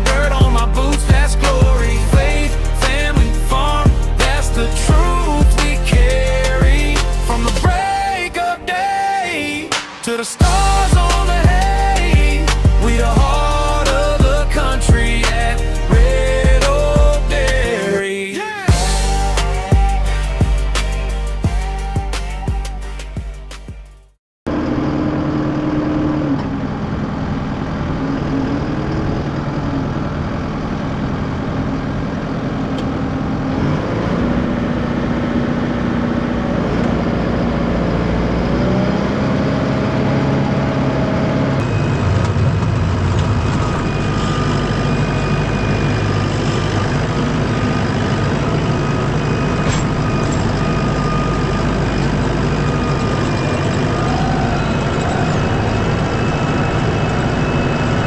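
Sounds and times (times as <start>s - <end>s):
heavy vehicle engine running: 0.0s - 8.5s, 9.7s - 17.8s, 18.7s - 58.0s.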